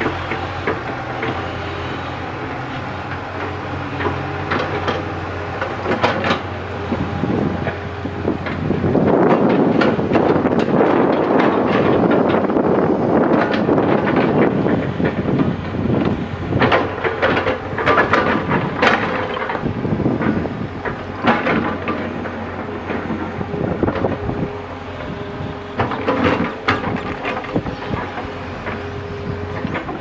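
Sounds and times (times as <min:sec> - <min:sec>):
diesel engine running under load: 0:00.0 - 0:30.0.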